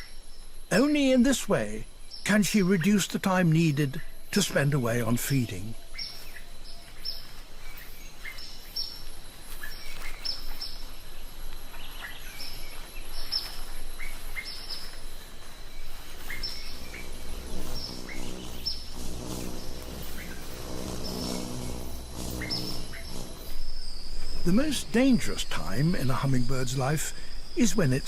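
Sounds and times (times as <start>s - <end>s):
bird chirping: 0.0s - 28.0s
low steady tones: 0.1s - 28.0s.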